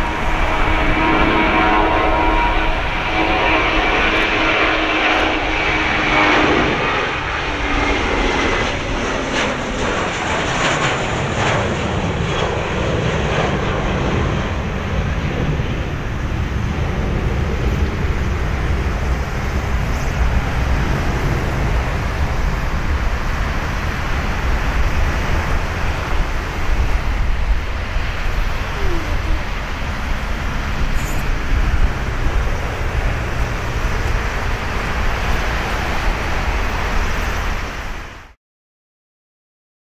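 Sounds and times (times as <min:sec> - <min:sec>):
jet engine high whine: 0:00.0 - 0:38.4
jet engine low rumble: 0:00.0 - 0:38.4.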